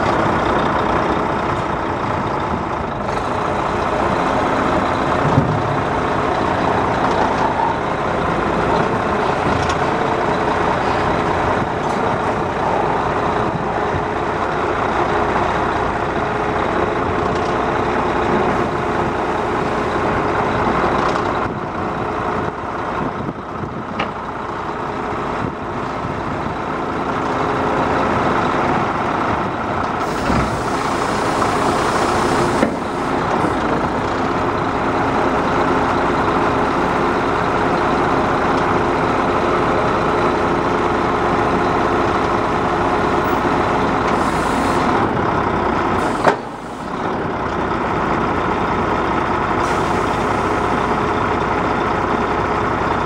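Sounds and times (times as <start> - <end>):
diesel truck engine under load: 0.0 - 53.0.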